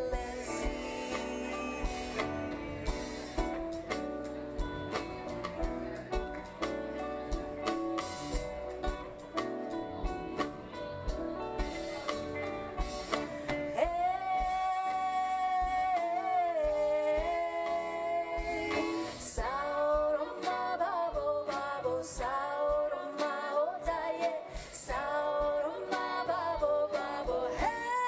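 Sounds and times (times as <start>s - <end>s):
live band playing: 0.0s - 28.0s.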